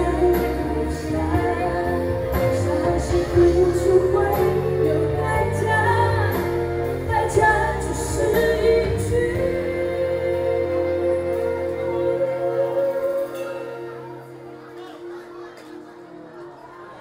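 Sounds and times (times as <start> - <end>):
woman singing: 0.0 - 14.2
live pop band: 0.0 - 15.1.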